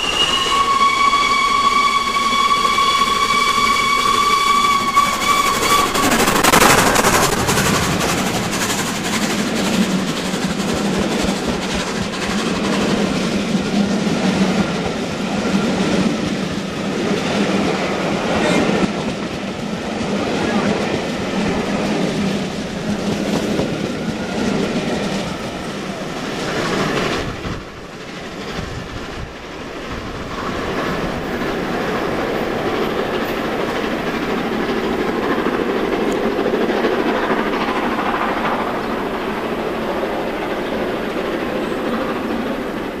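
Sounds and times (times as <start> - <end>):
train wheels clicking over rail joints: 0.0 - 17.8, 18.6 - 43.0.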